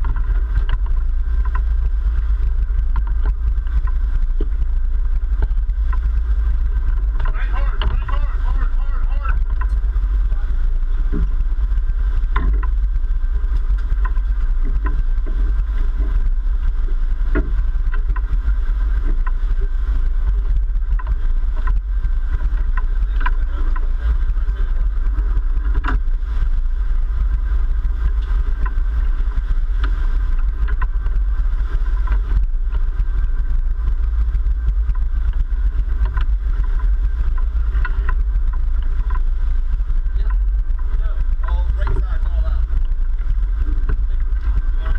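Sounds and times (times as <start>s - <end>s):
boat engines rumbling: 0.0s - 44.9s
water churning: 0.0s - 44.9s.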